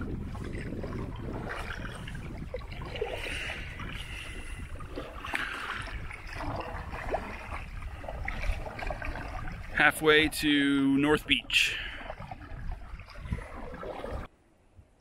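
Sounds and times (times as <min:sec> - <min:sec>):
paddle splashing in water: 0:00.0 - 0:14.3.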